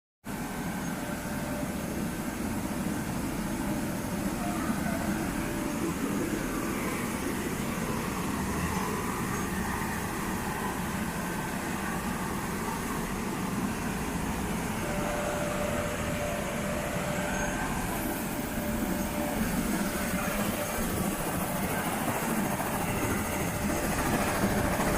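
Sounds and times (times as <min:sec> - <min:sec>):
helicopter turbine and rotor: 0:00.3 - 0:24.9.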